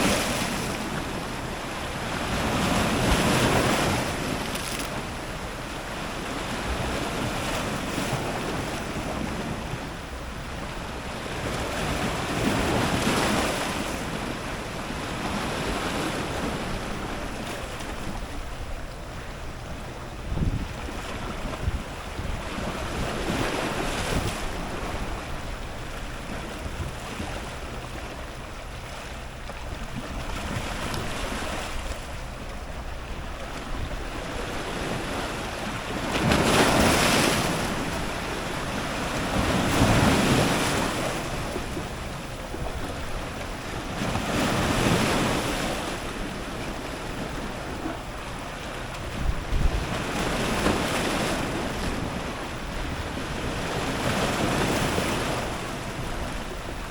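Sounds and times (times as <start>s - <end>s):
ocean surf breaking on rocks: 0.0s - 56.9s
wind rumble on microphone: 0.0s - 56.9s.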